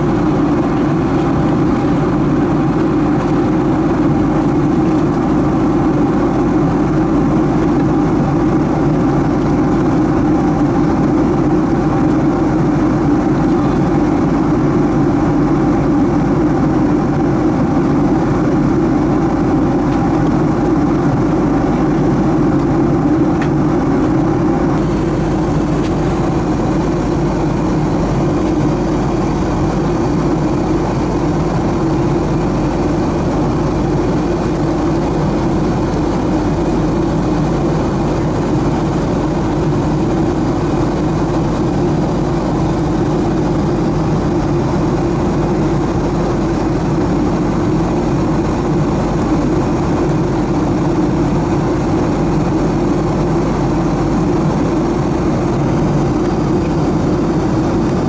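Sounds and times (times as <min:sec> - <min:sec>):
airliner cabin engine hum: 0:00.0 - 0:58.0.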